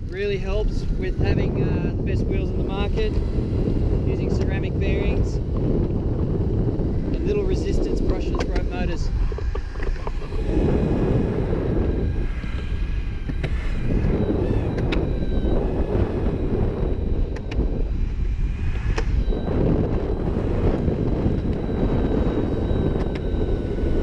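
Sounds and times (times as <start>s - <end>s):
faint high motor whine: 0.0s - 24.0s
wind buffeting microphone: 0.0s - 24.0s.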